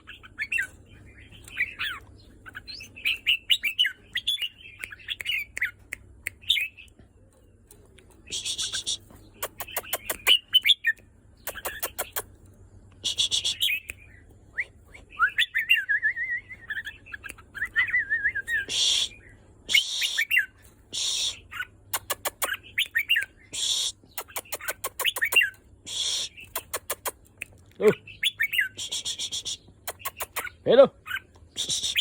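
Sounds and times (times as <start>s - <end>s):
bird calling and singing: 0.0s - 32.0s.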